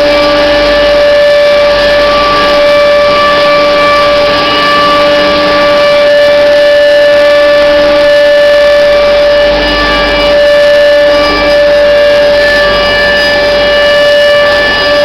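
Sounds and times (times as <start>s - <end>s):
bending machine high whine: 0.0s - 15.0s.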